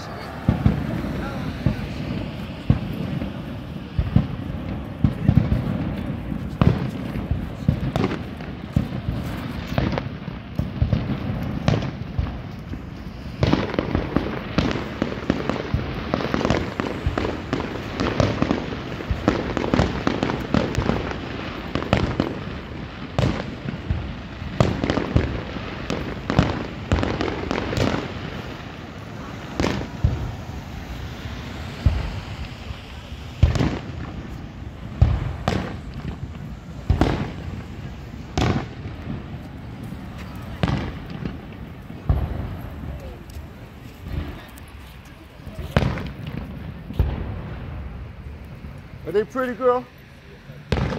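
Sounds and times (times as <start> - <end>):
fireworks bursts and booms: 0.0 - 50.9.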